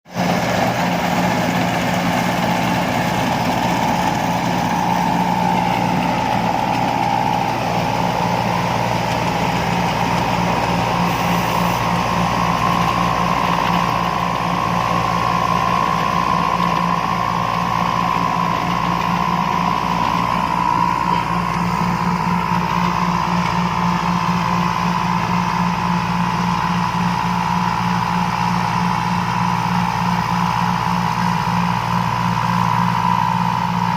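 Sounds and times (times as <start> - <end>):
combine harvester engine running: 0.1 - 33.9
high-pitched whine: 0.2 - 33.9.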